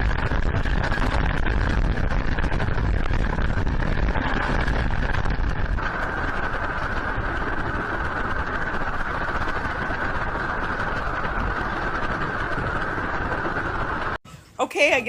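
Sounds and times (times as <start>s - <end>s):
earthquake low rumble: 0.0s - 14.2s.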